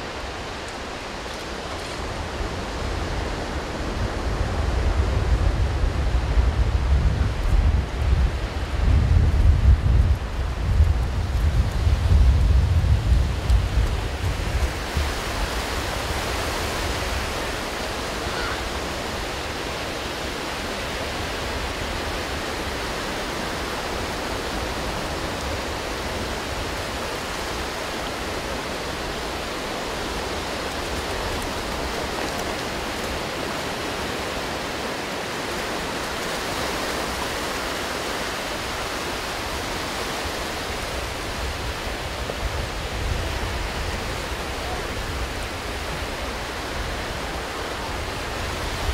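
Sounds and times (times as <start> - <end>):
ocean surf breaking: 0.0 - 48.9
wind buffeting microphone: 0.0 - 48.9.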